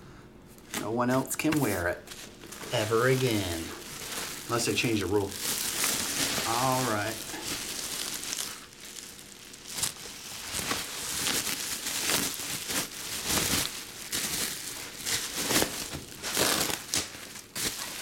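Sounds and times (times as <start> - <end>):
bubble wrap crinkling: 0.6 - 18.0.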